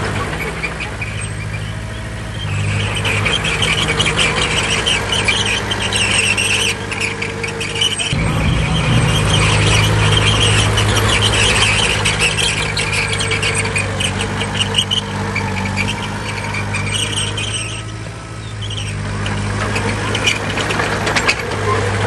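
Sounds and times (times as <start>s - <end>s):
bulldozer diesel engine running: 0.0s - 22.0s
crawler tracks squealing and clanking: 0.0s - 22.0s.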